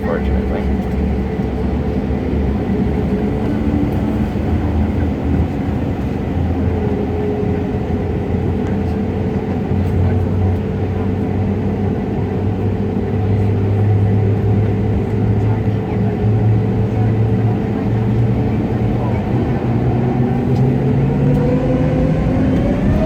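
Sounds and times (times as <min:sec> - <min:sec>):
jet engine low rumble: 0:00.0 - 0:23.0.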